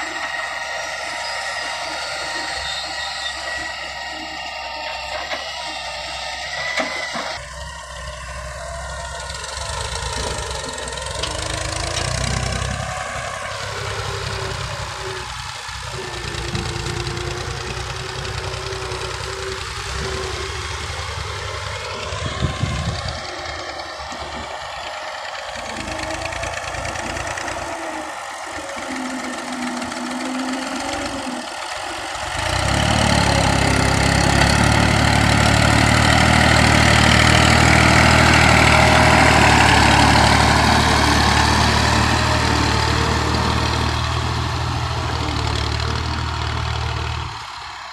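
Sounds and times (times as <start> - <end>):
tractor engine revving: 0.0 - 47.9.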